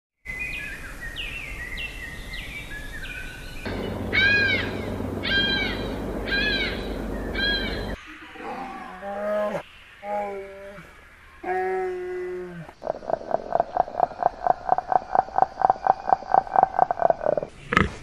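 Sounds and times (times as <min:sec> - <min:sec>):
bird calls: 0:00.3 - 0:18.0.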